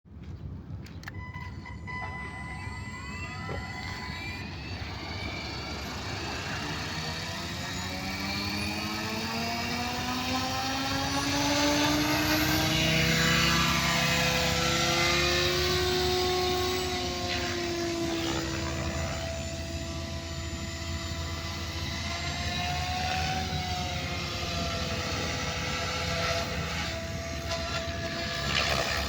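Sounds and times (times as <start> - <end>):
electric helicopter motor whine: 0.9 - 29.0.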